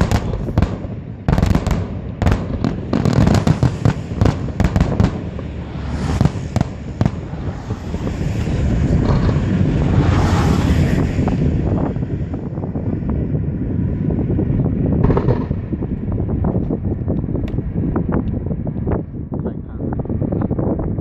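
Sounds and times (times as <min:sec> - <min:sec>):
fireworks bangs and crackles: 0:00.0 - 0:19.1
continuous fireworks rumble: 0:00.0 - 0:21.0.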